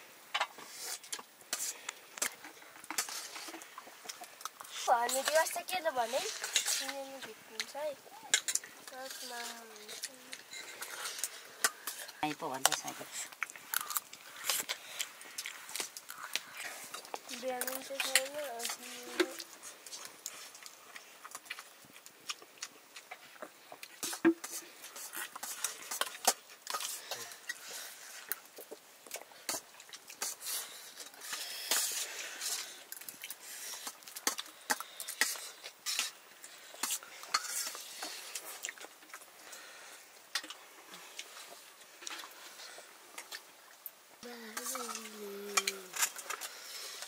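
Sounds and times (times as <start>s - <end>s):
faint steady hiss: 0.0s - 47.0s.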